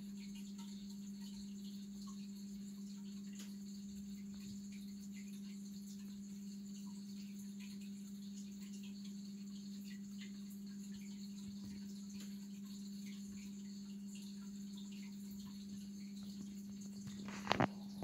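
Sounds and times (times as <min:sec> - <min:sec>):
aquarium pump humming: 0:00.0 - 0:18.0
faint small ticks: 0:00.0 - 0:18.0.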